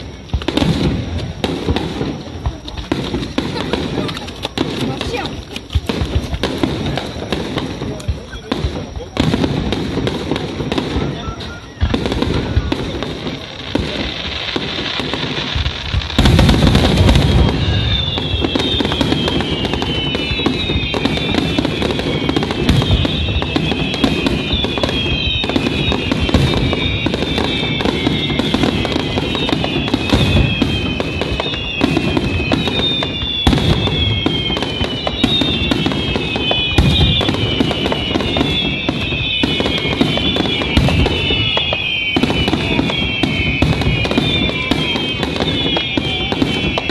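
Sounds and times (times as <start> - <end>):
fireworks booming and crackling: 0.0 - 46.9.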